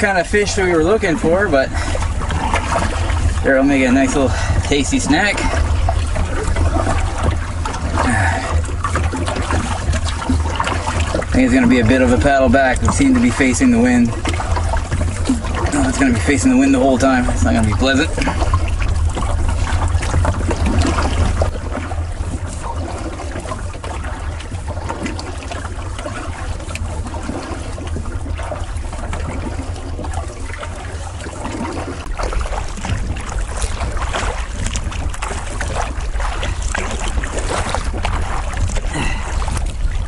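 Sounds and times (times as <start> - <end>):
paddle strokes splashing: 0.0 - 40.0
wind rumble on microphone: 0.0 - 40.0.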